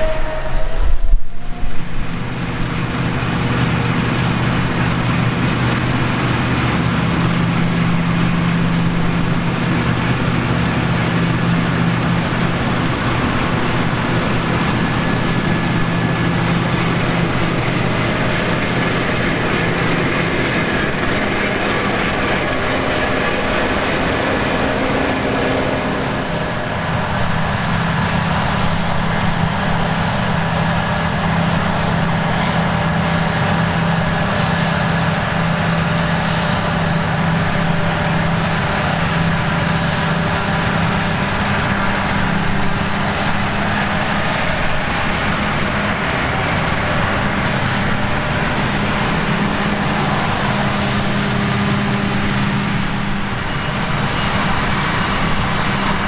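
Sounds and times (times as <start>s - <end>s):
diesel farm machinery running: 0.0s - 56.0s.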